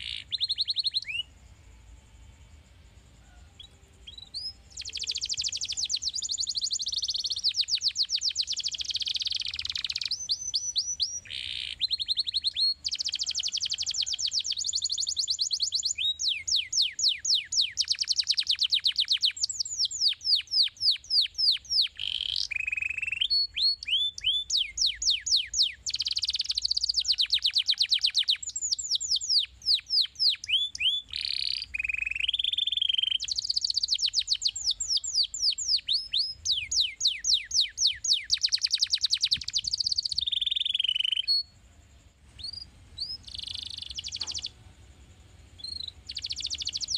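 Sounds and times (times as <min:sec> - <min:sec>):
canary singing trills: 0:00.0 - 0:02.4, 0:03.1 - 0:46.9.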